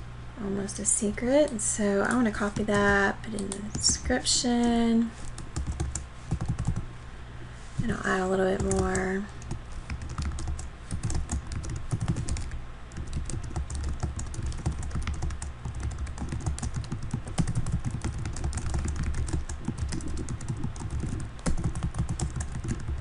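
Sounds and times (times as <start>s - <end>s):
computer keyboard typing: 2.1s - 4.7s, 5.3s - 6.8s, 8.6s - 23.0s.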